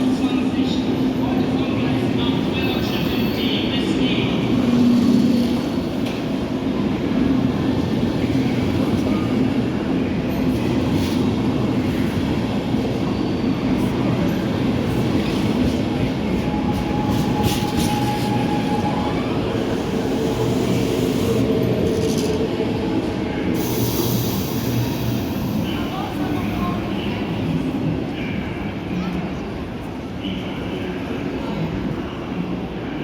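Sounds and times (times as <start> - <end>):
train wheels rumbling: 0.0 - 28.7.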